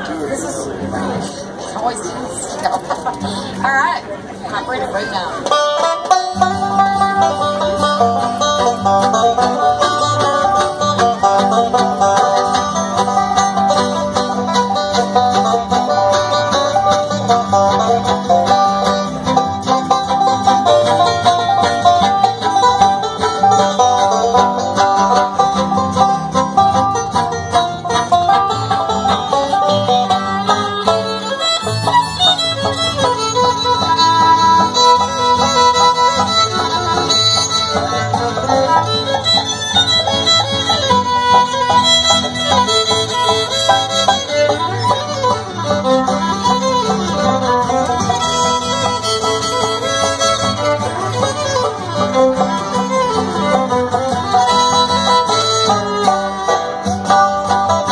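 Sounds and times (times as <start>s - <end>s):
acoustic guitar strumming: 0.0s - 57.9s
banjo: 0.0s - 57.9s
fiddle: 0.0s - 57.9s
upright bass: 0.0s - 57.9s.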